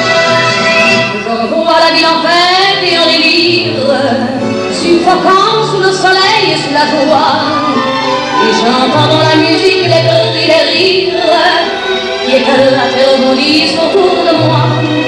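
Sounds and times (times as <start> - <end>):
instrumental accompaniment: 0.0 - 15.0
woman singing: 1.0 - 15.0.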